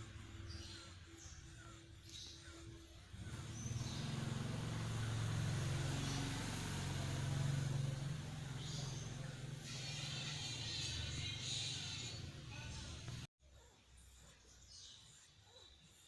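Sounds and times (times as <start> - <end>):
motor engine running: 0.0 - 13.3.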